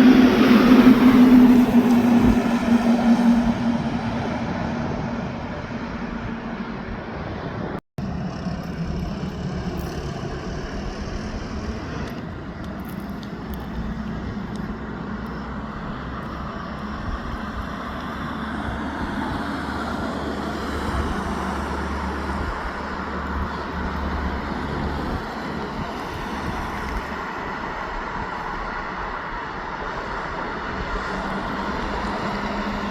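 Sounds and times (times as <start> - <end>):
road noise: 0.0 - 32.9
truck engine drone: 0.0 - 32.9.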